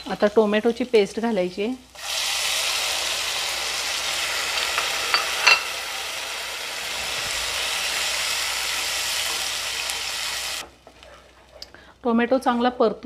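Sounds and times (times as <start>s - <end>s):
paste sizzling in hot oil: 0.0s - 10.6s.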